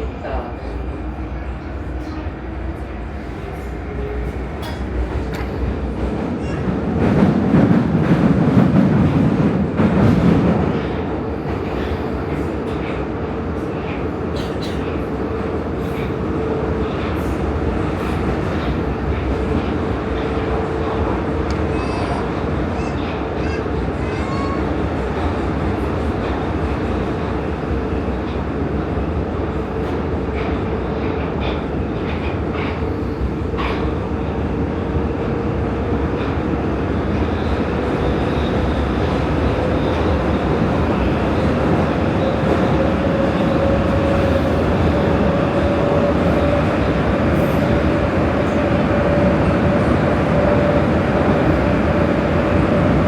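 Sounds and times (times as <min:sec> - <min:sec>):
metro train rumbling in tunnel: 0:00.0 - 0:53.0.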